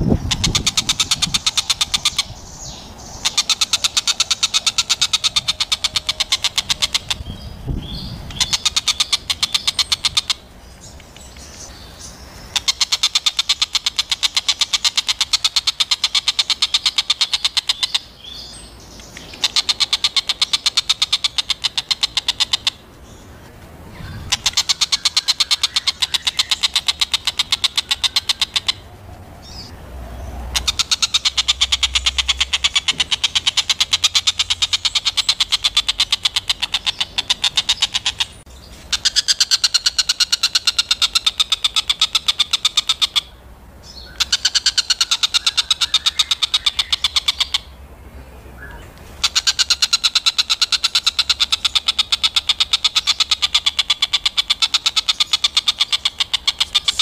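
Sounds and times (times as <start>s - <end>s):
bird chattering calls: 0.0s - 23.3s, 23.9s - 29.7s, 30.5s - 47.8s, 48.6s - 57.0s.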